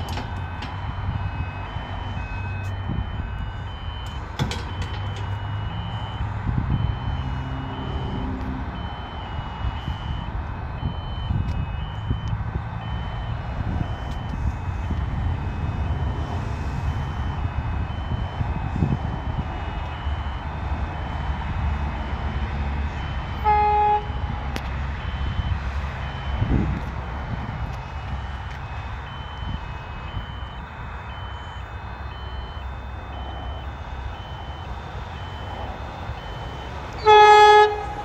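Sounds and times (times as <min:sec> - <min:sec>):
crossing alarm beeping: 0:00.0 - 0:38.0.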